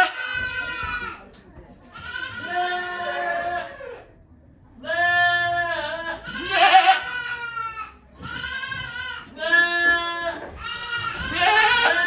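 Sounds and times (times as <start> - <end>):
goat bleating: 0.0 - 1.2, 1.9 - 4.0, 4.8 - 12.0.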